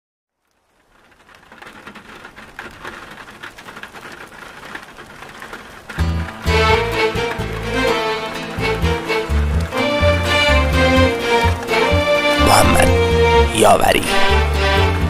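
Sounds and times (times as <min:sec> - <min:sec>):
rain patter: 0:00.3 - 0:15.0.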